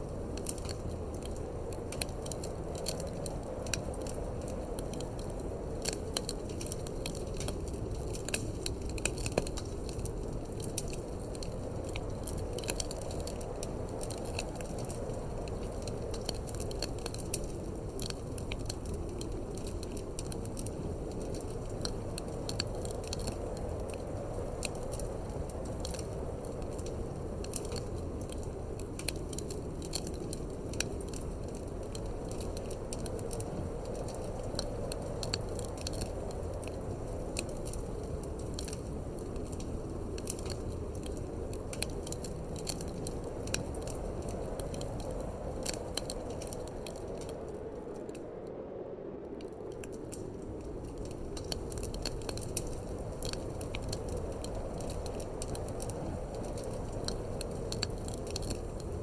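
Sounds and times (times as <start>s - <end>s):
wood fire crackling and popping: 0.0s - 48.6s, 49.2s - 59.0s
low rushing wind: 0.0s - 59.0s.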